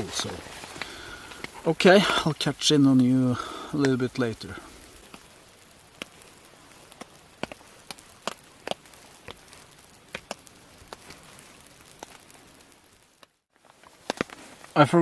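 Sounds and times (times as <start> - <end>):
raindrops tapping on a tarp: 0.0 - 14.8
faint hiss of rain: 0.0 - 15.0.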